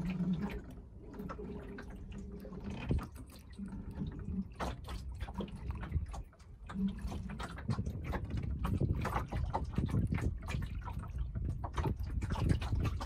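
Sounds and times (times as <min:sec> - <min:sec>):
sharp water splashes: 0:00.0 - 0:13.0
water lapping against wooden hull: 0:00.0 - 0:13.0.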